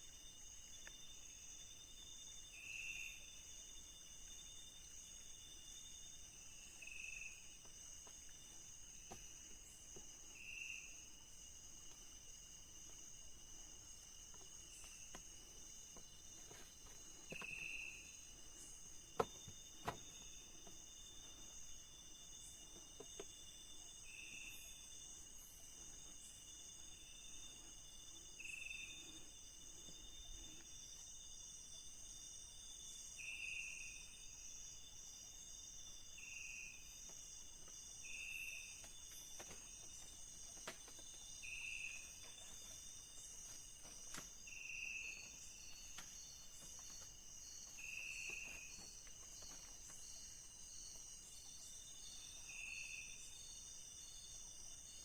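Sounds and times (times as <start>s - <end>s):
high-pitched insect drones: 0.0s - 55.0s.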